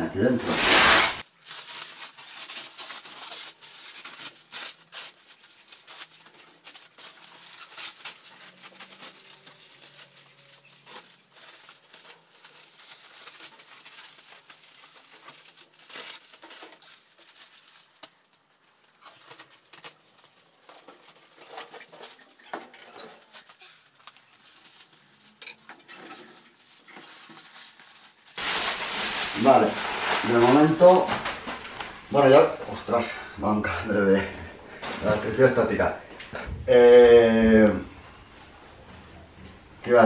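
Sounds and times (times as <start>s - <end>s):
plastic wrap crackling and rustling: 0.4s - 33.0s.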